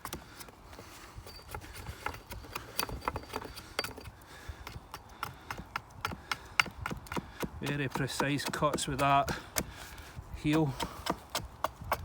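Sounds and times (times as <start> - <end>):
axe carving wood: 0.0 - 0.5, 1.3 - 12.0.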